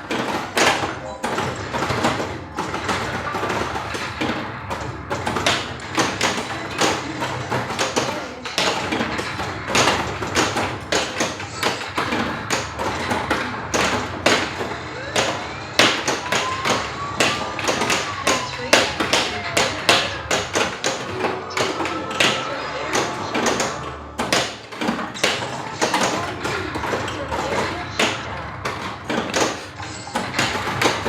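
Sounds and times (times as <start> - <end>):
pinball flippers and ball knocking: 0.0 - 31.0
pinball machine sound effects and music: 0.0 - 31.0.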